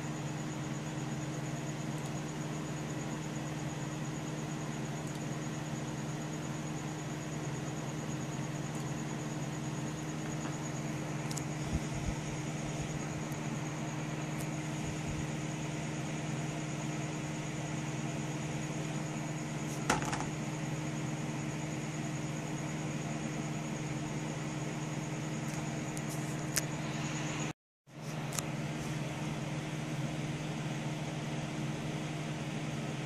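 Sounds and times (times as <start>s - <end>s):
computer hum and hiss: 0.0s - 33.0s
faint high whine: 0.0s - 33.0s.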